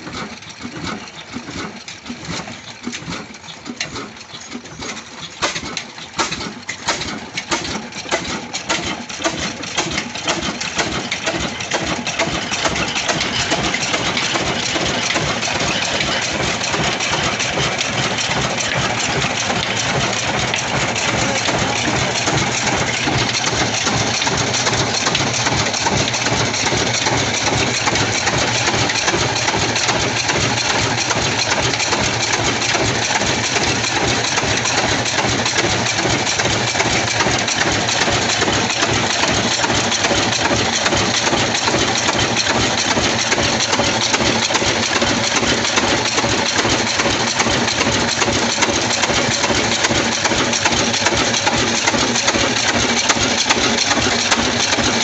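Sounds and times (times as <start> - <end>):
stationary diesel engine running: 0.0 - 55.0.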